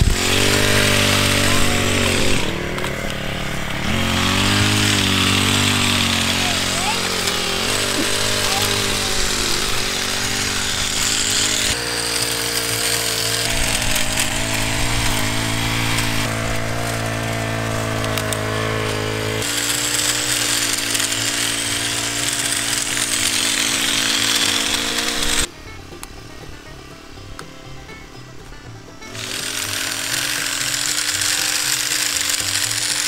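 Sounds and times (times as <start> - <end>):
hedge trimmer engine running: 0.0 - 33.0.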